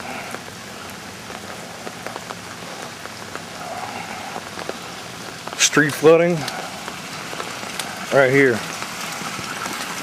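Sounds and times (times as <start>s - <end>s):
drops ticking: 0.0s - 10.0s
rain hissing: 0.0s - 10.0s
running stormwater: 0.0s - 10.0s.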